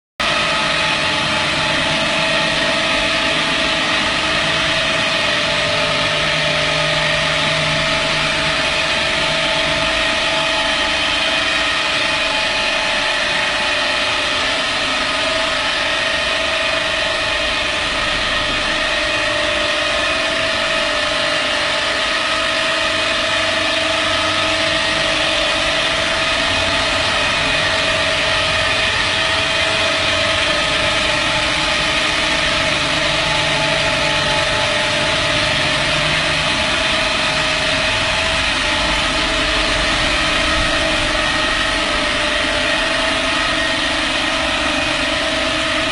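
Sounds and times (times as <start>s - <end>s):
floor grinder motor whine: 0.2s - 45.9s.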